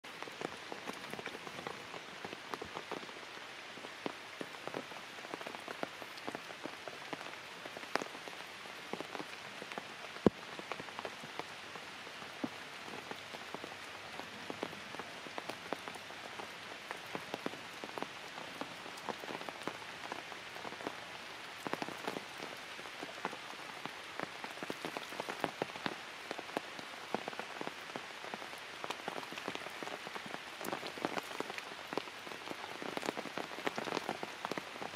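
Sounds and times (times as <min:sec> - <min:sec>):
light rain on leaves: 0:00.0 - 0:34.9
raindrops ticking: 0:00.1 - 0:34.9.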